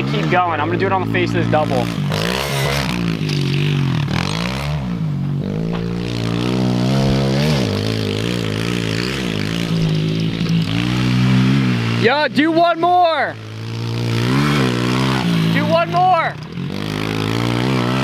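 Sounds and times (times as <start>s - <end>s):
pit bike engine revving: 0.0s - 18.0s.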